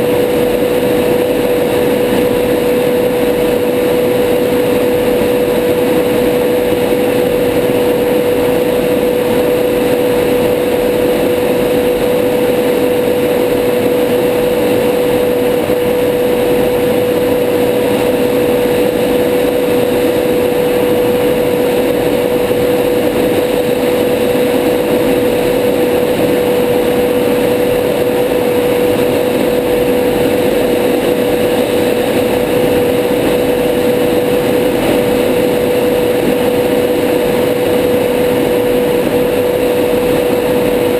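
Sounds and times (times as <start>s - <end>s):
jet engine and airflow rush: 0.0s - 40.9s.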